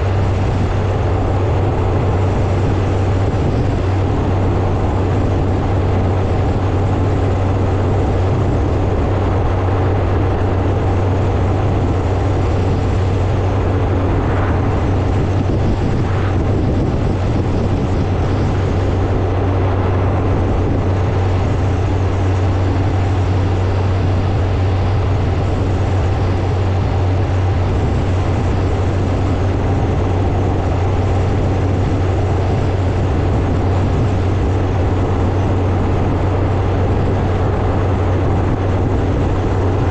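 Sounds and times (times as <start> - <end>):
motorcycle engine drone: 0.0 - 39.9
rushing road and air noise: 0.0 - 39.9.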